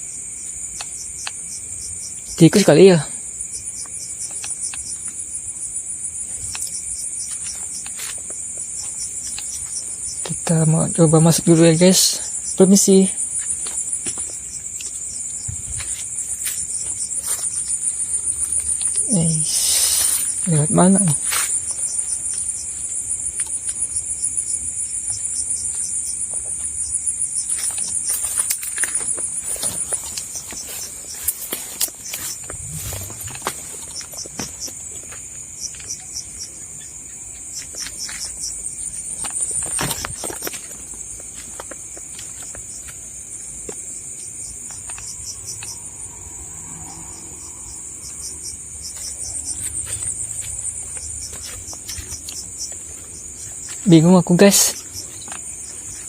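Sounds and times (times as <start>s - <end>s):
crickets chirring drone: 0.0s - 56.0s
pulsing insect chirp: 0.0s - 56.0s.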